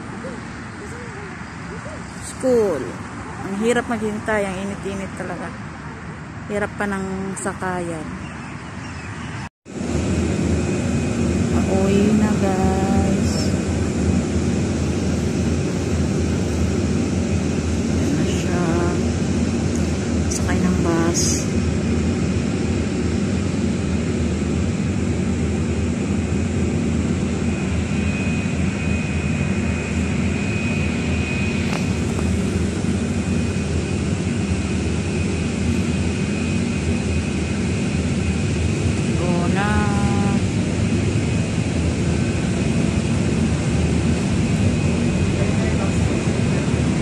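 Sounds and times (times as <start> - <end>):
bus engine and road noise: 0.0 - 47.0.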